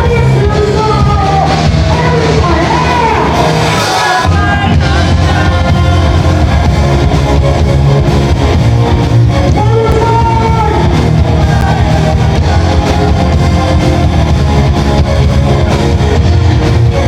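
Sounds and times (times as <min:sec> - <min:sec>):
electric guitar: 0:00.0 - 0:17.0
live rock band playing: 0:00.0 - 0:17.0.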